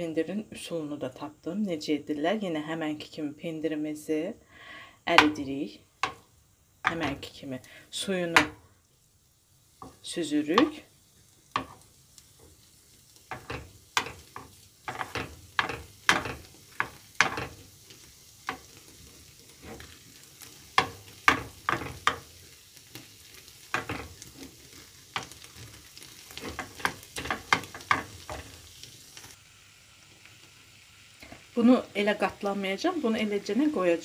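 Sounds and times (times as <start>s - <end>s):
cheese sizzling: 5.1s - 34.0s.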